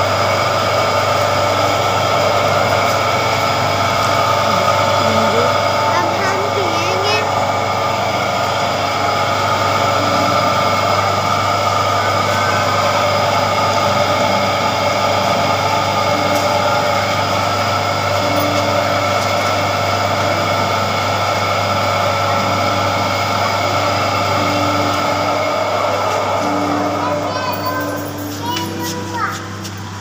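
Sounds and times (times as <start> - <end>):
juice machine motor humming: 0.0 - 30.0.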